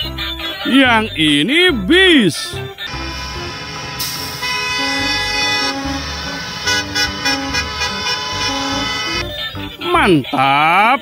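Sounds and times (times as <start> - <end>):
bus horns honking: 0.0 - 10.3.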